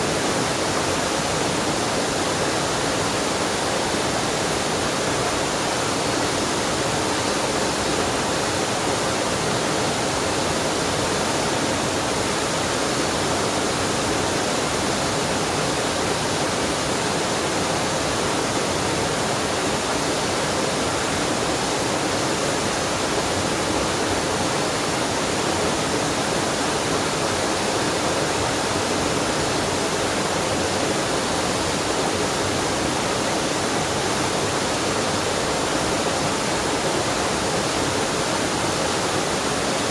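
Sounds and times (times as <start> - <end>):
water rushing roar: 0.0 - 39.9.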